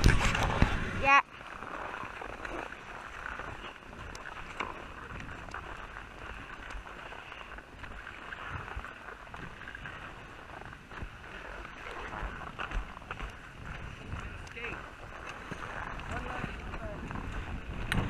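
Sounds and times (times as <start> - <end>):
skis scraping over snow: 0.0 - 18.0.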